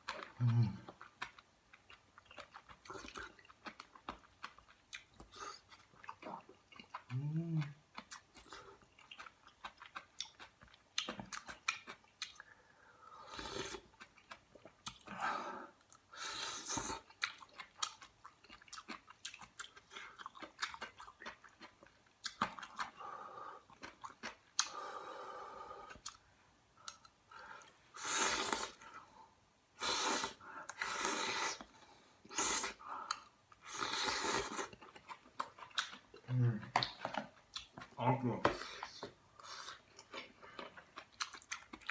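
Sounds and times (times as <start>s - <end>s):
person chewing food: 0.0s - 29.2s, 29.8s - 41.9s.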